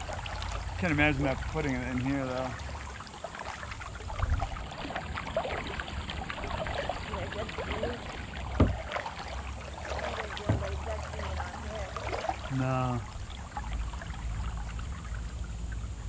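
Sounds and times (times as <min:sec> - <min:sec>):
paddle splashing and dripping water: 0:00.0 - 0:16.0.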